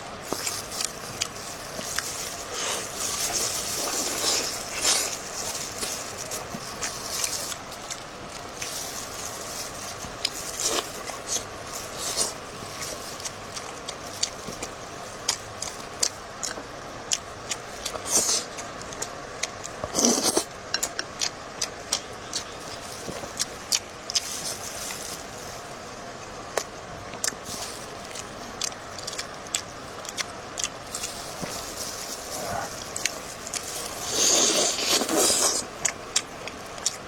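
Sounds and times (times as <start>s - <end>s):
wet chewing and mouth clicks: 0.2s - 9.3s, 10.1s - 25.0s, 26.6s - 27.5s, 28.1s - 37.0s.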